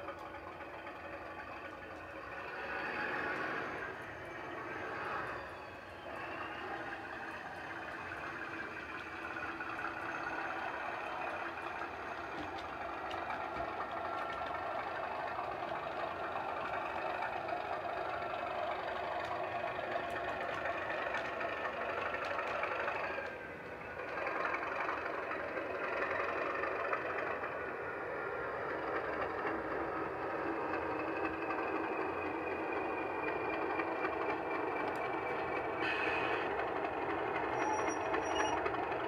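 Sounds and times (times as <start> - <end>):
model locomotive diesel engine sound: 0.0 - 39.0.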